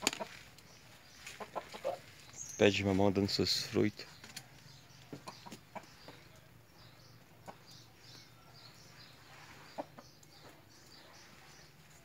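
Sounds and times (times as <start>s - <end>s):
faint high bird chirps: 0.2s - 12.0s.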